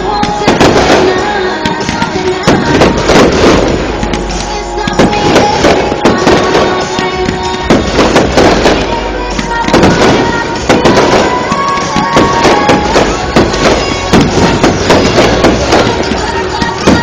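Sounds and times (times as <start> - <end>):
fireworks bangs: 0.0 - 17.0
music playing: 0.0 - 17.0.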